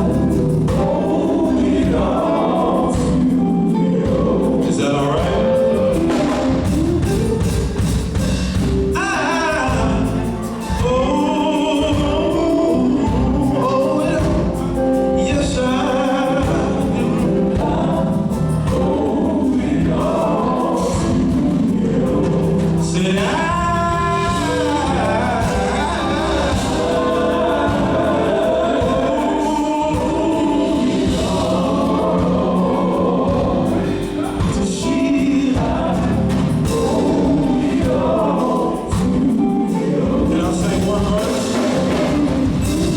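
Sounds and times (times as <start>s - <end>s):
band accompaniment: 0.0s - 42.9s
lead male voice singing: 0.0s - 42.9s
male group singing gospel: 0.0s - 42.9s.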